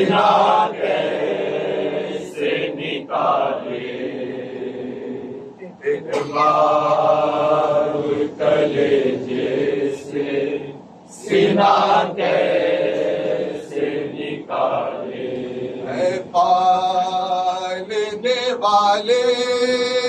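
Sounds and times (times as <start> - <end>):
men chanting together: 0.0 - 20.0.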